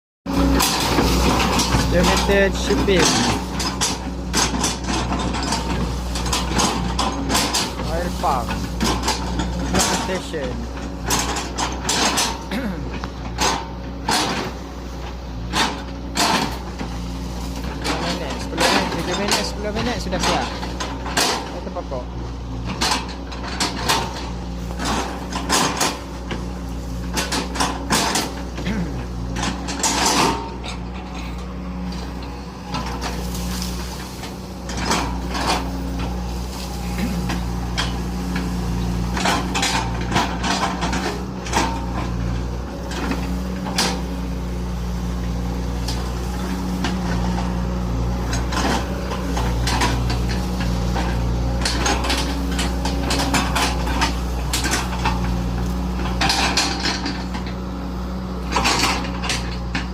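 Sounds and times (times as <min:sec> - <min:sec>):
excavator diesel engine running: 0:00.3 - 0:59.9.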